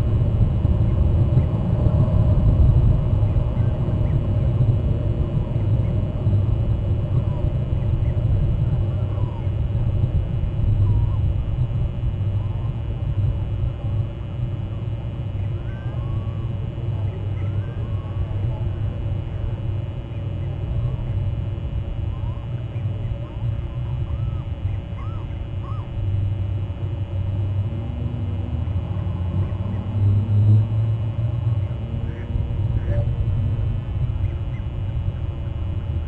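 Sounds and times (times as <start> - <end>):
steady low rumble: 0.0 - 36.0
distant bird calls: 2.9 - 10.0, 14.1 - 35.9.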